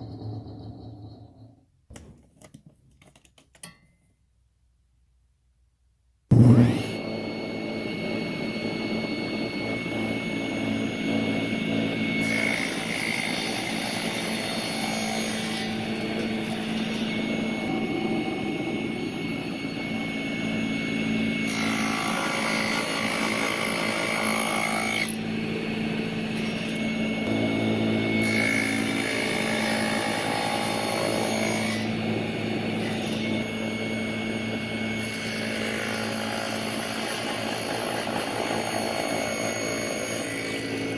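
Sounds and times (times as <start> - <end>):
sawmill engine running: 6.3 - 40.9.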